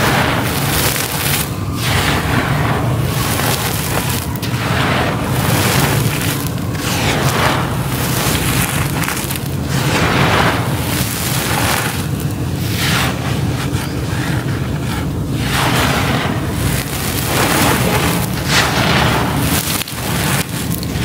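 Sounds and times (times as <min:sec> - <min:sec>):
hands crushing charcoal on floor: 0:00.0 - 0:21.0.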